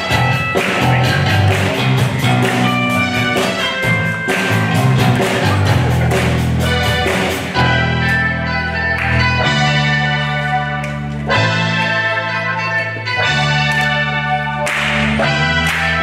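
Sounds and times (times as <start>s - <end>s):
bass guitar: 0.0s - 16.0s
drum kit beat: 0.0s - 16.0s
electric guitars: 0.0s - 16.0s.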